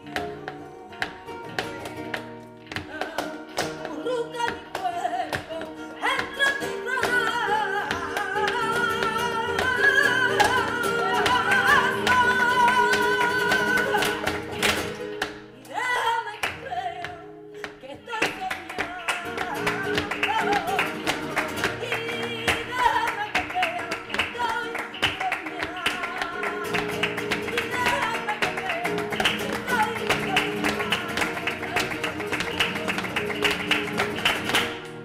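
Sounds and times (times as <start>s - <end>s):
acoustic guitar: 0.0s - 35.0s
flamenco singing: 0.0s - 35.0s.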